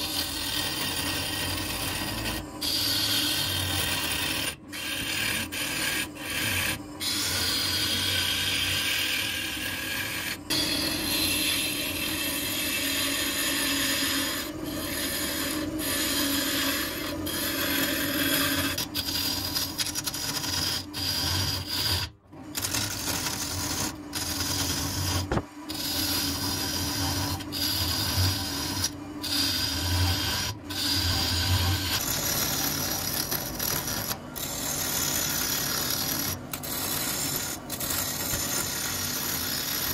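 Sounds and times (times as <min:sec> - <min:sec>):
gouge scraping wood: 0:00.0 - 0:39.9
lathe humming: 0:00.0 - 0:39.9.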